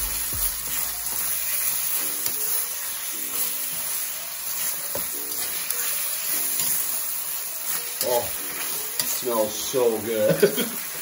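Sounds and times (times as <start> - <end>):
soft background music chords: 0.0 - 10.1
chicken sizzling in a frying pan: 0.0 - 11.0.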